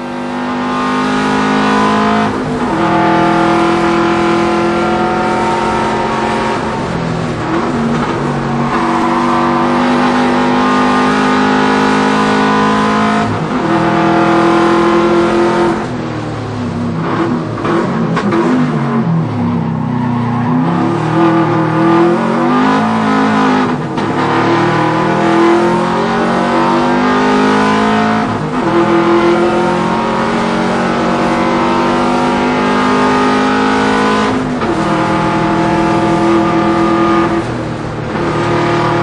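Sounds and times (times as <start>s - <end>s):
car engine revving hard: 0.0s - 39.0s.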